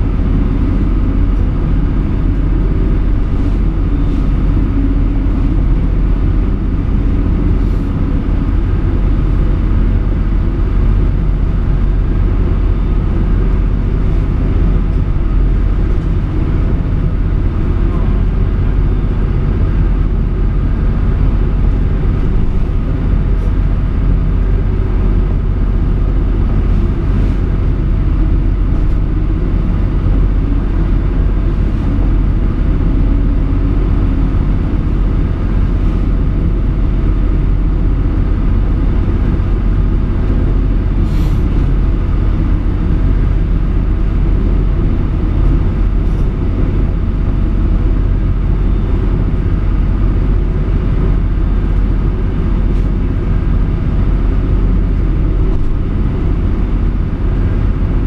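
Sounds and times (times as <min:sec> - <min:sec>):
motorboat engine rumbling: 0:00.0 - 0:58.0.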